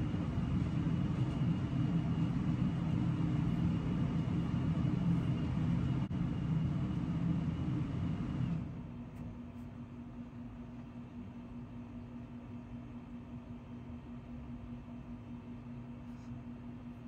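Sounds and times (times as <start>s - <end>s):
machine hum and rumble: 0.0s - 17.0s.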